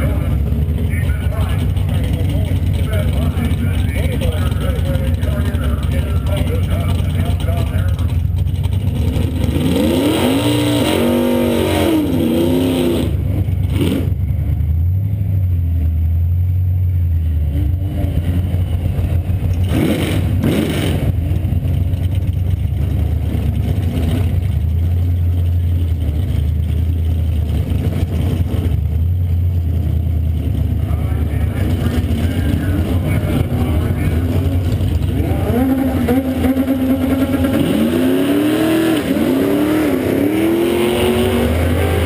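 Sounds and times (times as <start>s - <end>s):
car engine idling: 0.0s - 10.0s, 13.1s - 42.0s
engine revving: 0.0s - 16.0s, 17.2s - 42.0s.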